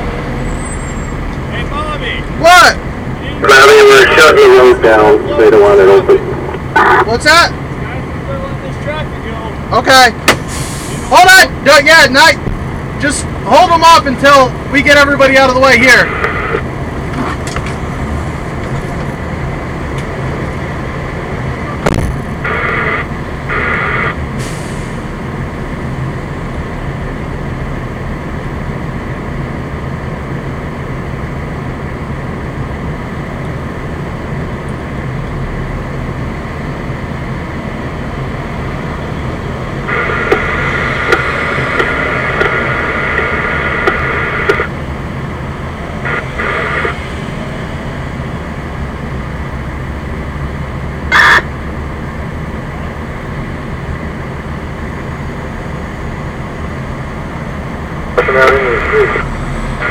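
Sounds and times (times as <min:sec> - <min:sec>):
diesel engine idling: 0:00.0 - 0:17.1, 0:17.8 - 0:59.9.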